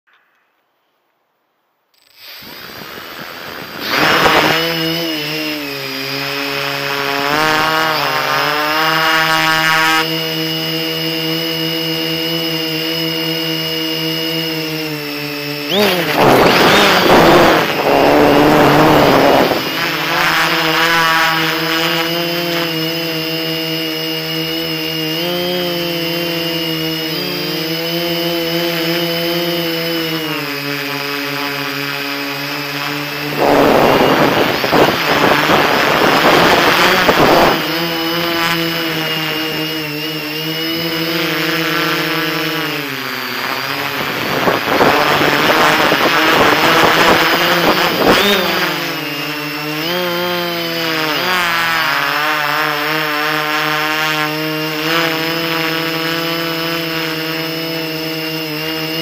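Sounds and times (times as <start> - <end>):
drone propellers whining: 2.0 - 59.0.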